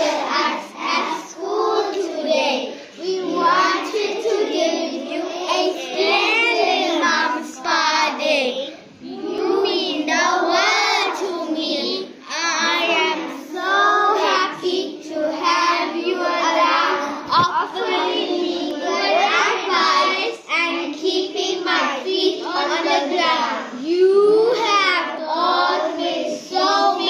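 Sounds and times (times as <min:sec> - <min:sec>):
boys singing together: 0:00.0 - 0:27.0.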